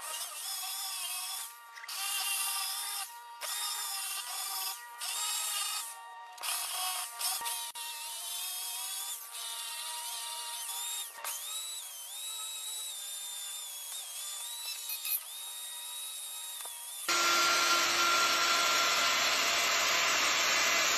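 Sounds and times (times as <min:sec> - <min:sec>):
die grinder whining: 0:00.0 - 0:20.9
router running: 0:04.0 - 0:20.9.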